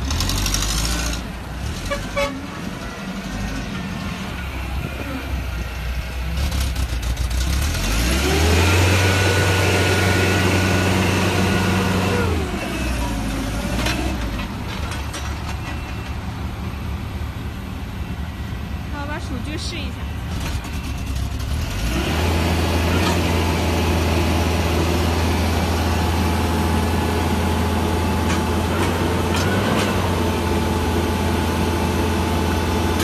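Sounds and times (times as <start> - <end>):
forklift engine idling and revving: 0.0 - 33.0.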